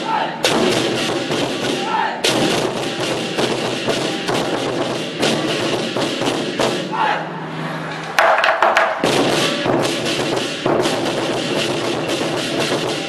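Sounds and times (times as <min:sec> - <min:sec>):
barrel drums beaten: 0:00.0 - 0:07.0, 0:08.2 - 0:13.0.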